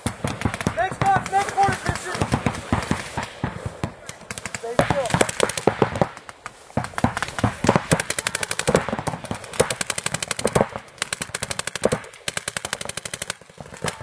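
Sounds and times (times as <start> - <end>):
paintball markers firing: 0.0 - 14.0.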